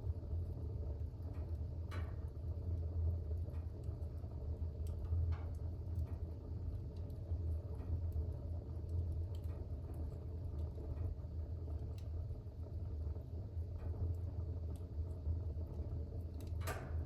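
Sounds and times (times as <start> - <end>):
fire burning in fireplace: 0.0 - 17.0.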